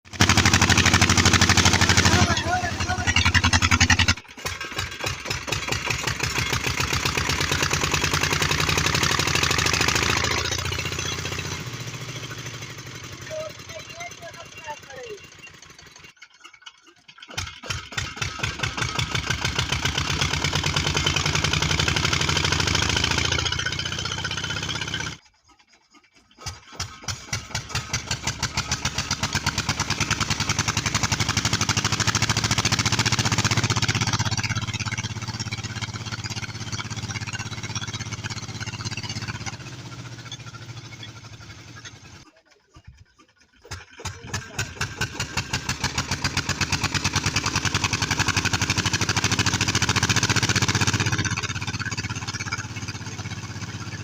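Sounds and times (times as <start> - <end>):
diesel engine starting and running: 0.0 - 54.0.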